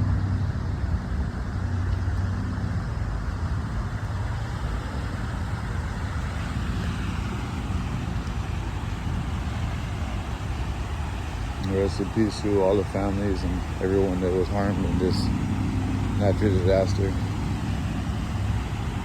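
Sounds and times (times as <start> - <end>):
low engine hum: 0.0 - 19.0
vehicle passing with tyre noise: 0.0 - 19.0.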